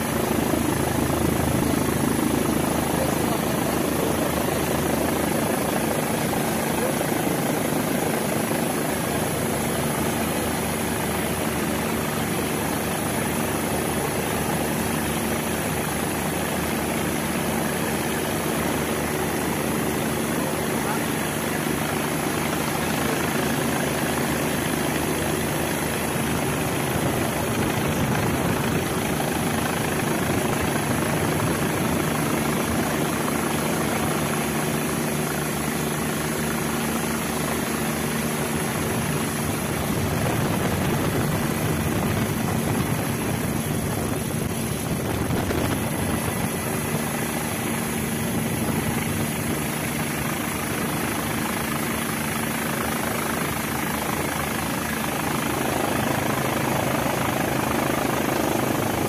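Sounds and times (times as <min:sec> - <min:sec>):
helicopter rotor hum: 0:00.0 - 0:59.0.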